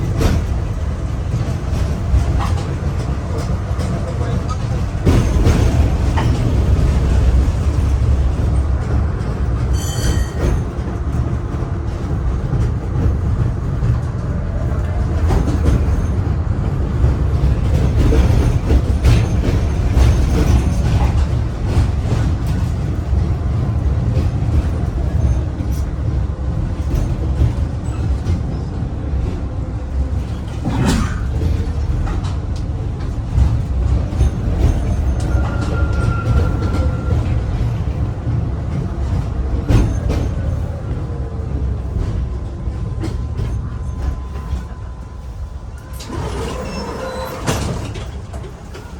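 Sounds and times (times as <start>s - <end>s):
tram rumbling along track: 0.0s - 48.9s
wheels knocking and clanking on rails: 0.0s - 48.9s.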